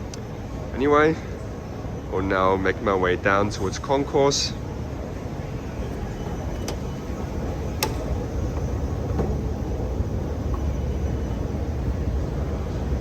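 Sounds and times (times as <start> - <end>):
low rumble of station interior: 0.0 - 13.0.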